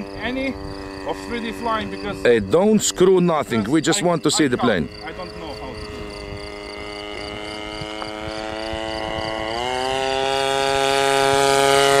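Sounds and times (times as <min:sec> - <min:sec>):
model plane engine at high throttle: 0:00.0 - 0:12.0.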